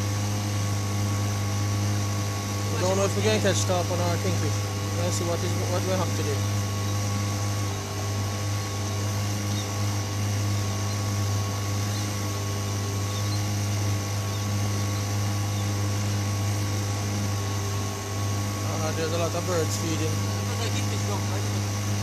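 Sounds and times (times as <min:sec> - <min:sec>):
outboard motor droning: 0:00.0 - 0:22.0.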